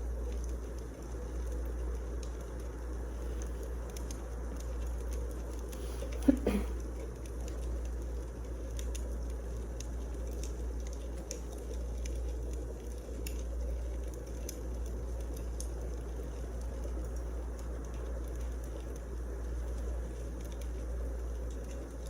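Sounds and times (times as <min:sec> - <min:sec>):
logs crackling and popping: 0:00.0 - 0:22.0
low rush of flames: 0:00.2 - 0:22.0.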